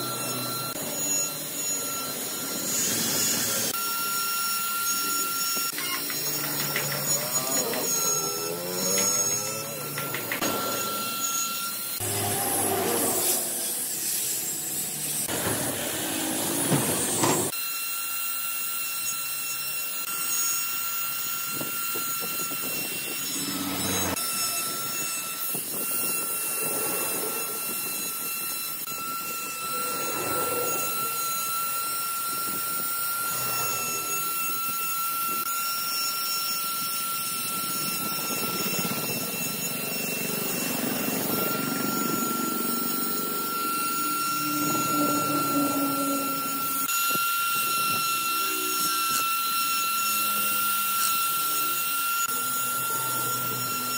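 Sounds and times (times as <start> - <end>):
die grinder carving wood: 0.0 - 53.9.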